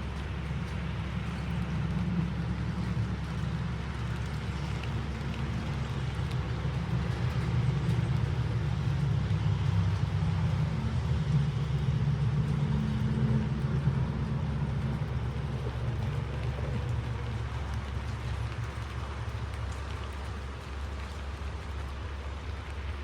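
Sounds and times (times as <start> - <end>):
motor vehicle rumble: 0.0 - 23.0.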